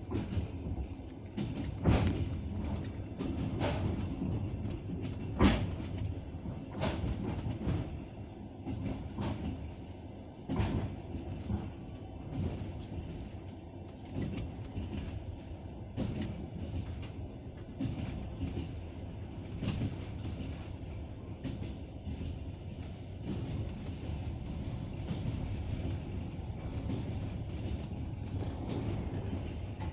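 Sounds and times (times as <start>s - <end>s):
train running rumble: 0.0s - 29.9s
train wheels clacking over rail joints: 0.0s - 29.9s.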